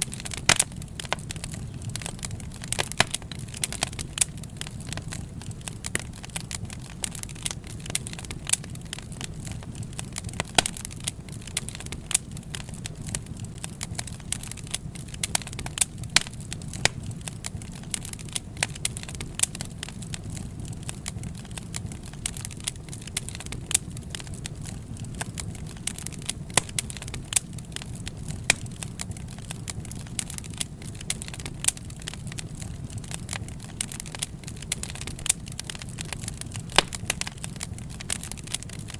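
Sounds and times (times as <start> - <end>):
fire crackles and pops: 0.0 - 38.9
low rumble of flames: 0.0 - 38.9.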